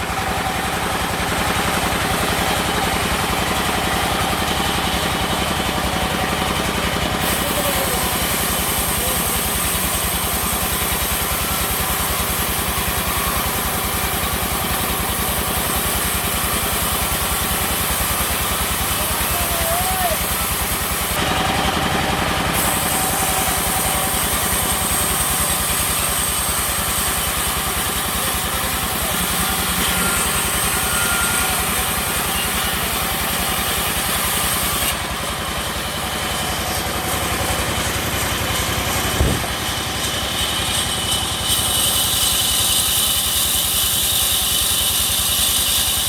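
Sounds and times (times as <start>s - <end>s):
sawmill machinery running: 0.0s - 46.0s.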